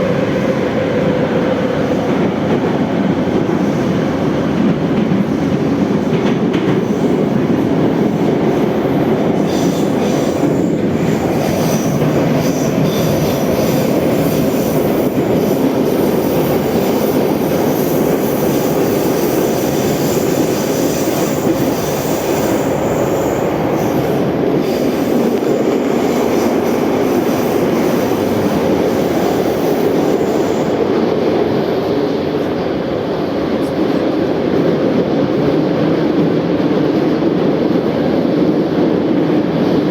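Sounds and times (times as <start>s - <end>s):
train wheel and rail noise: 0.0s - 39.9s.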